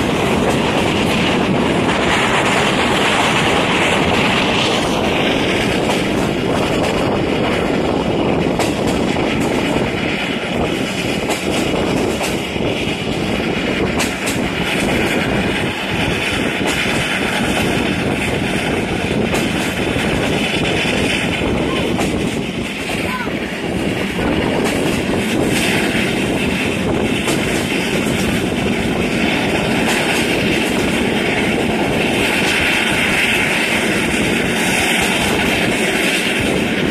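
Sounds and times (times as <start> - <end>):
train wheels rumbling on track: 0.0 - 36.9.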